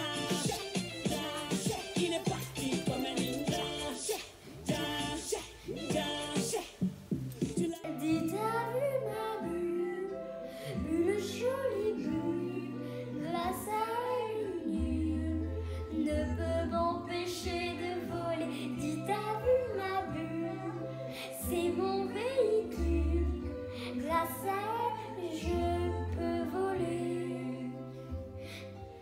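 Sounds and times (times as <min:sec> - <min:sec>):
girl singing: 0:00.0 - 0:28.6
pop backing track with bass: 0:00.0 - 0:29.0.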